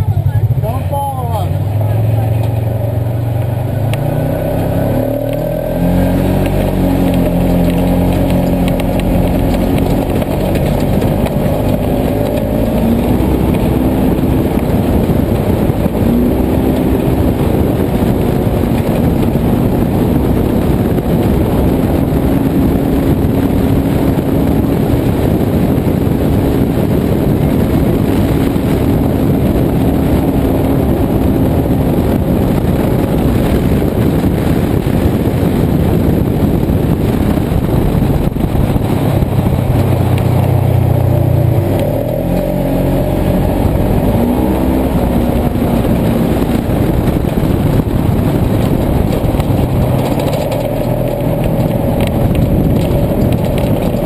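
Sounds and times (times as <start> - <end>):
vehicle engine under load: 0.0 - 54.0.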